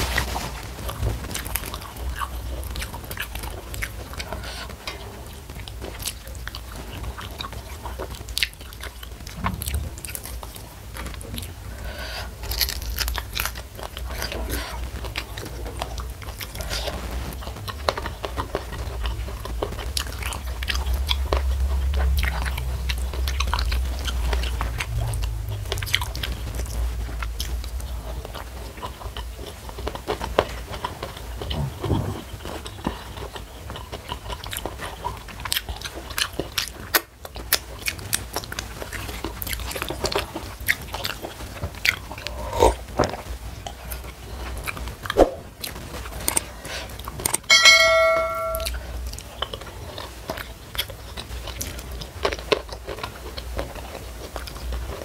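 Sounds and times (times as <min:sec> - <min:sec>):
chewing with crisp crunches: 0:00.0 - 0:47.5, 0:48.7 - 0:55.0.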